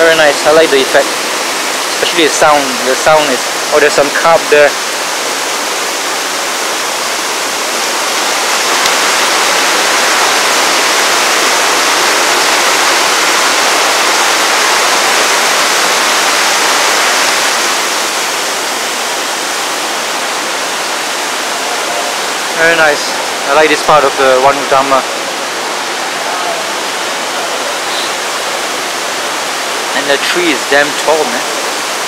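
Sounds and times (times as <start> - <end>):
rainwater pouring into pond: 0.0 - 32.0.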